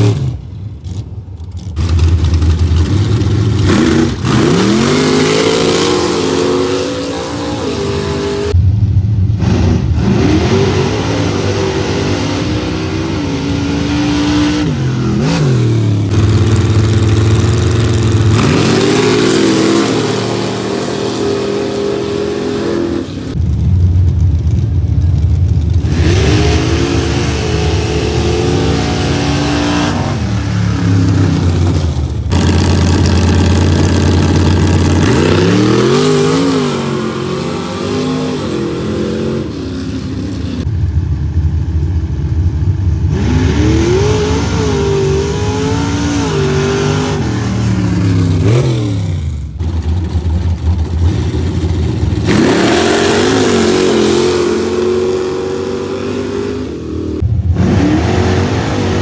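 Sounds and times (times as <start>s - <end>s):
truck engines revving: 0.0s - 59.0s.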